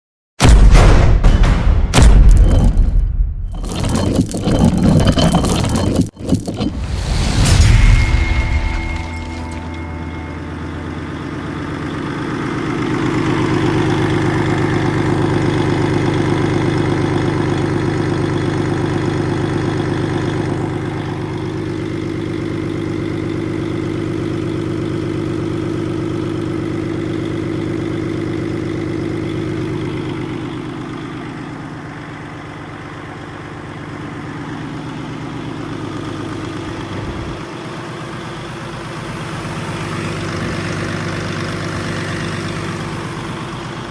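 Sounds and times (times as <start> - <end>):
diesel engine idling: 8.4 - 43.9.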